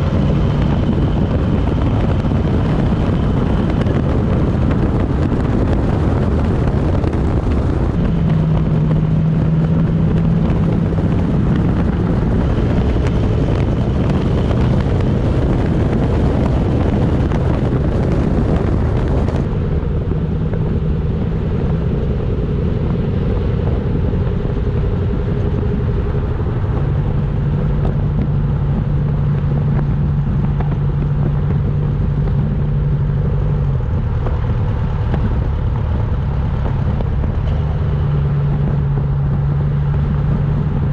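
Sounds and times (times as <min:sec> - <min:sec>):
low exhaust drone: 0:00.0 - 0:40.9
road and wind noise: 0:00.0 - 0:40.9.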